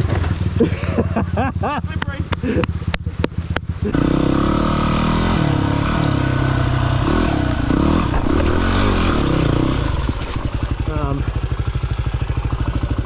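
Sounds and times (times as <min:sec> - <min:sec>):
motorcycle engine under load: 0:01.3 - 0:13.0.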